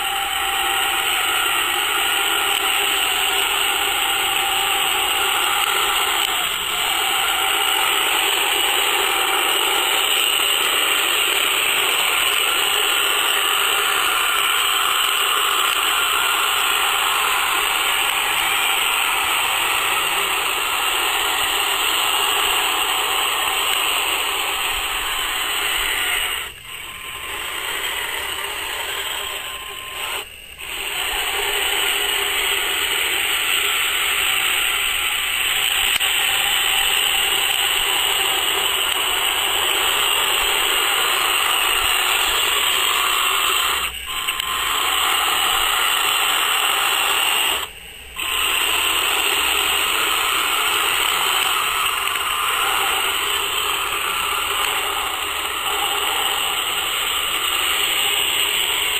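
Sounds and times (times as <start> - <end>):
toy tank electric motors whirring: 0.0 - 58.9.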